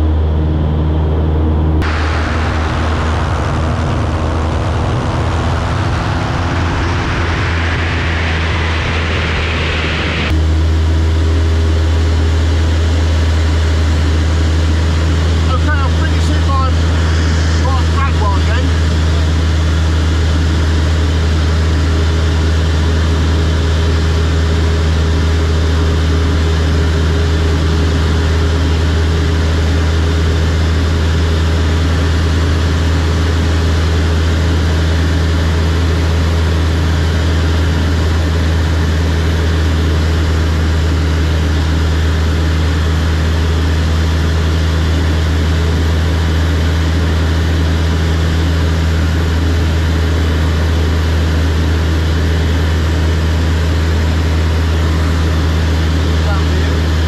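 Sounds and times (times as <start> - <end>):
propeller aircraft engine drone: 0.0 - 57.0.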